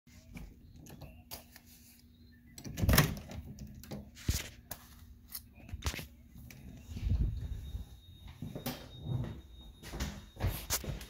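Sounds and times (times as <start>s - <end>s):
faint steady hum: 0.1s - 11.0s.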